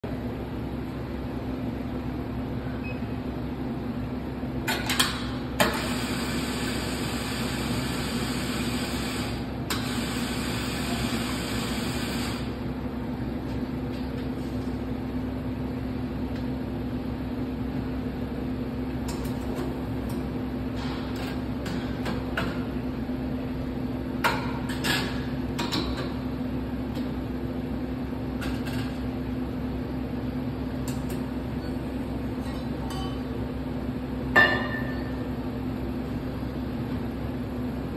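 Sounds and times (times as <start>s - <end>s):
mechanical hum: 0.0s - 37.9s.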